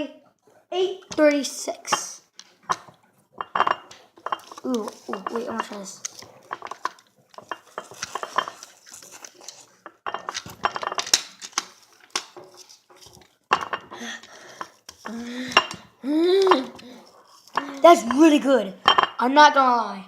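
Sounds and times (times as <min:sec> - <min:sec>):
spoon clinking and scraping container: 0:02.7 - 0:19.2.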